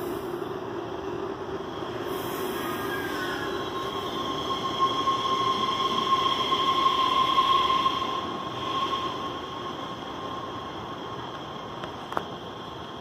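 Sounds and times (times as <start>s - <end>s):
low rumble of train cars: 0.0s - 13.0s
train wheels squealing: 0.0s - 13.0s.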